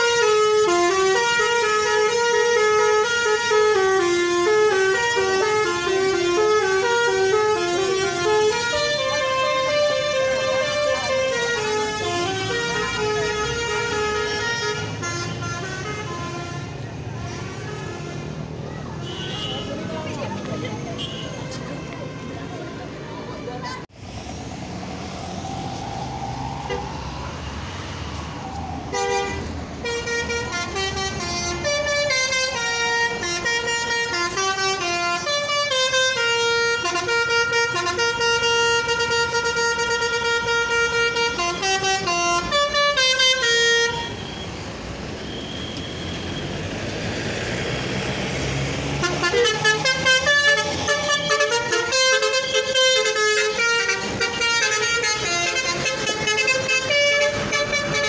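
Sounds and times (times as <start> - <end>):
multi-tone bus horn melody: 0.0 - 19.9, 20.9 - 22.8, 28.9 - 44.5, 48.9 - 58.0
bus engine: 0.0 - 58.0
road noise: 0.0 - 58.0.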